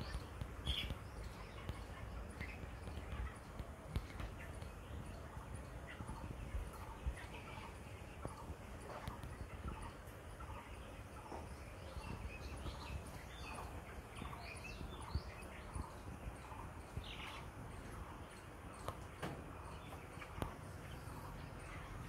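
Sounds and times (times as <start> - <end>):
chickens peeping and chirping: 0.0 - 22.0
low steady background: 0.0 - 22.0.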